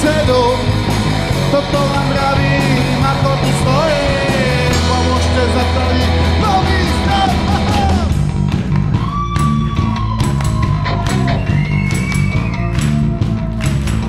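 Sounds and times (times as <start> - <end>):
bass guitar: 0.0 - 14.0
drum kit: 0.0 - 14.0.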